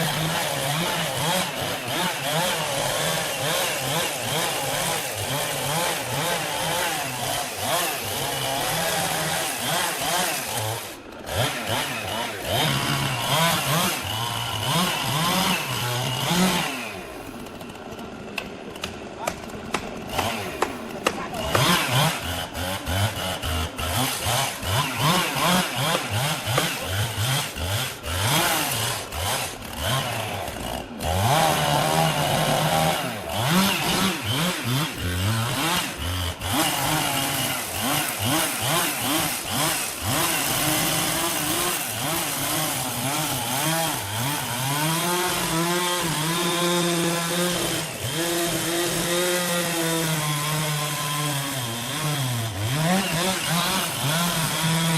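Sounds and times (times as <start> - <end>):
chainsaw revving and cutting: 0.0 - 54.9.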